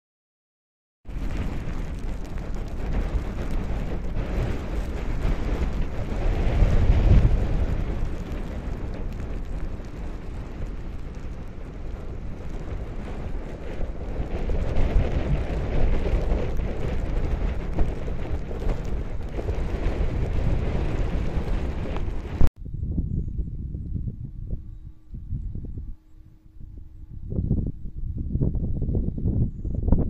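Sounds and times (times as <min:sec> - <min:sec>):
wind buffeting microphone: 0:01.1 - 0:30.0.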